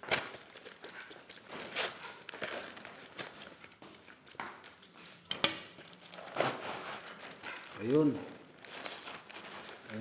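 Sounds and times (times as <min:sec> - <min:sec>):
packaging rustling and crinkling: 0:00.0 - 0:04.9, 0:05.8 - 0:10.0
sharp plastic crackles: 0:00.0 - 0:04.9, 0:05.8 - 0:10.0.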